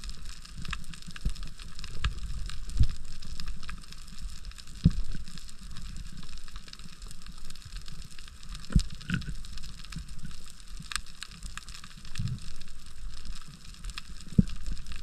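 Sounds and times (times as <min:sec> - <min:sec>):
low water rumble: 0:00.0 - 0:15.0
underwater crackling hiss: 0:00.0 - 0:15.0.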